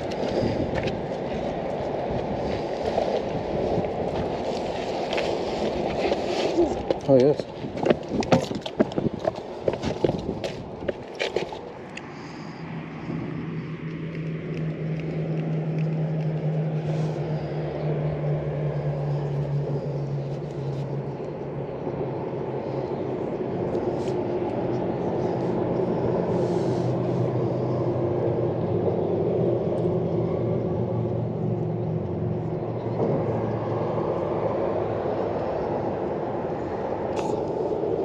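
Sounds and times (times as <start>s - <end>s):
constant rushing noise: 0.0s - 38.0s
engine drone: 0.0s - 38.0s.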